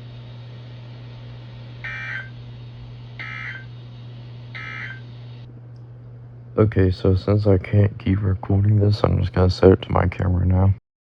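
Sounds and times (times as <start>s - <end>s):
low radio hum: 0.0s - 10.8s.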